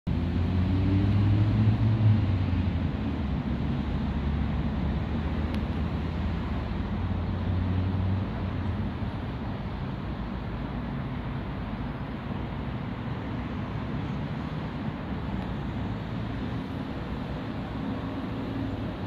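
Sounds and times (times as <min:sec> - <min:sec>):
road traffic rumble: 0:00.1 - 0:19.0.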